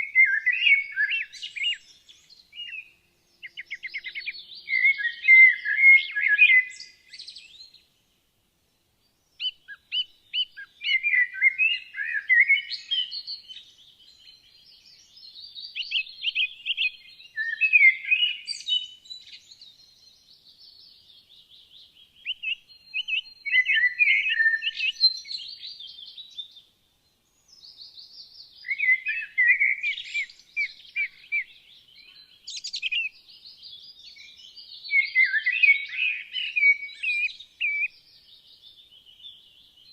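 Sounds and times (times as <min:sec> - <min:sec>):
thin sustained bird whistle: 0:00.0 - 0:07.9, 0:09.2 - 0:39.9
songbirds singing: 0:00.0 - 0:39.9.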